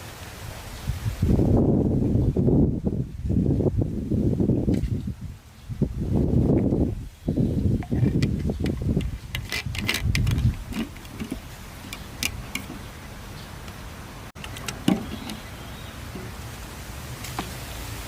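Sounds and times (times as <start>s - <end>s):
faint steady hiss: 0.0s - 9.4s, 10.5s - 18.0s.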